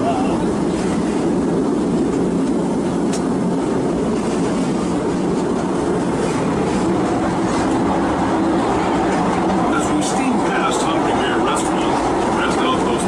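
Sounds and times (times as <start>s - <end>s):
train car rumbling along track: 0.0s - 13.0s.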